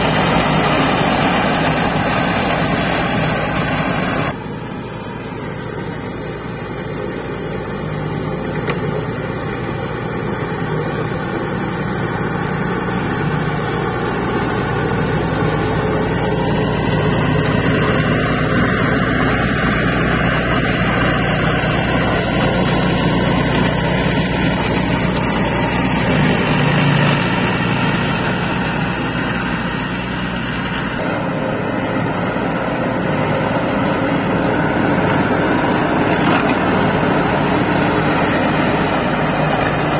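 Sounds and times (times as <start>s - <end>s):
diesel mower engine running: 0.0s - 39.9s.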